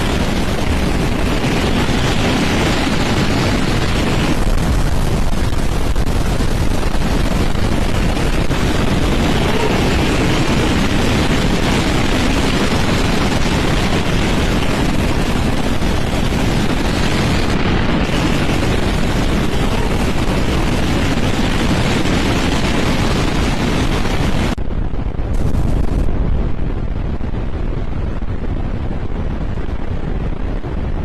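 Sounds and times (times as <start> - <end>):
storm wind buffeting microphone: 0.0 - 31.0.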